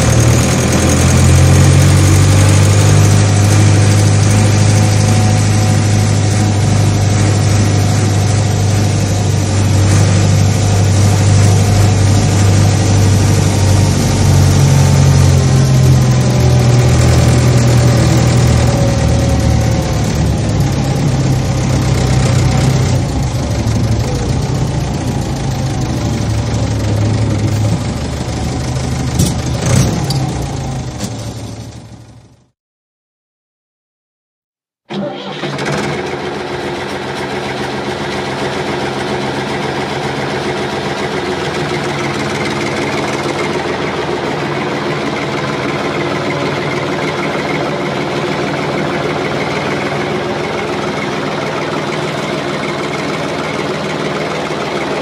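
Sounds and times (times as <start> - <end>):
diesel engine droning: 0.0 - 32.5, 34.9 - 55.0.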